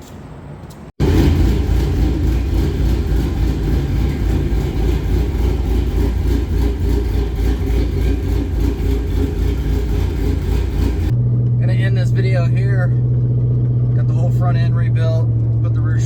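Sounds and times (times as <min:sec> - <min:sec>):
pickup engine and road noise: 0:00.0 - 0:16.0.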